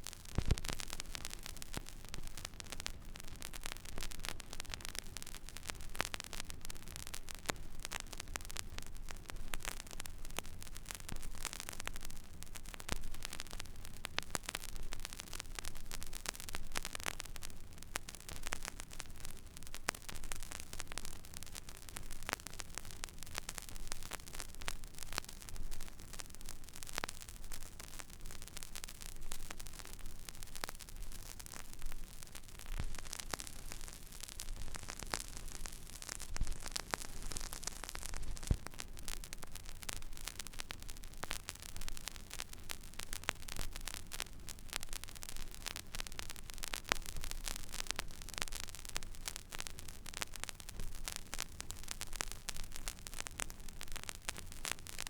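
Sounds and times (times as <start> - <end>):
vinyl crackles and pops: 0.0 - 55.0
vinyl surface hiss: 0.0 - 55.0.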